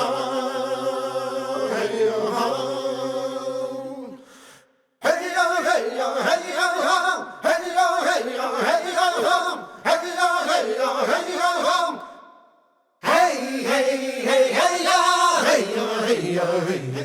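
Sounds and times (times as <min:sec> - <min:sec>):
person chanting: 0:00.0 - 0:04.3, 0:05.0 - 0:12.2, 0:13.0 - 0:17.0.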